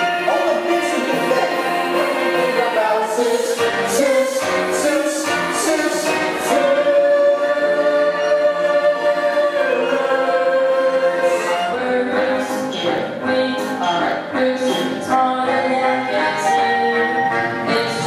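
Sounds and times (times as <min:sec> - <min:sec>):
children's chorus singing: 0:01.1 - 0:17.0.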